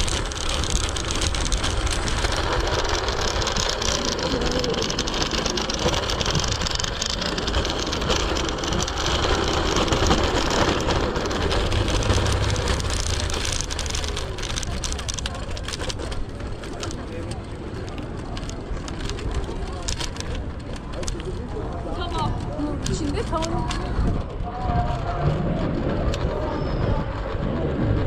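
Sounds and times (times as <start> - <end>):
car traffic: 0.0 - 24.0
tyres on street rumble: 0.0 - 28.0.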